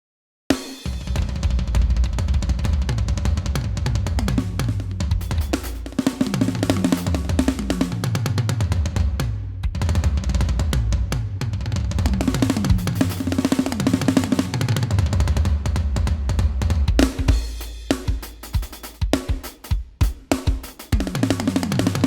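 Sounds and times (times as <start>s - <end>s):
drum kit playing: 0.5s - 22.0s.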